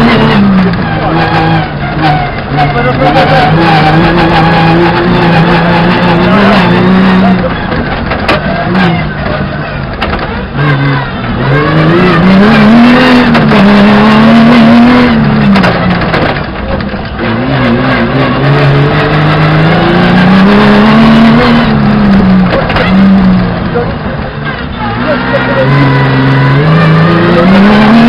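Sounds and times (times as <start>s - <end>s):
knocks and clatter from rough track: 0.0s - 28.0s
rally car engine at full throttle: 0.0s - 28.0s.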